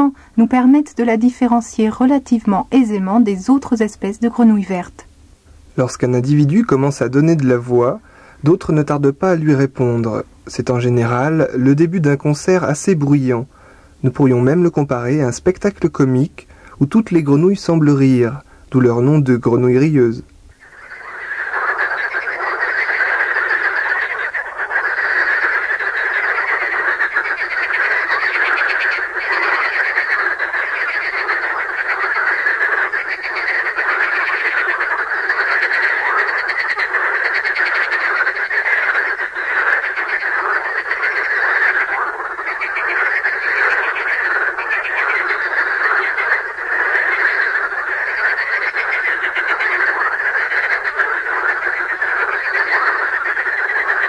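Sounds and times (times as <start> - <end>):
frogs calling in chorus: 5.8 - 54.0.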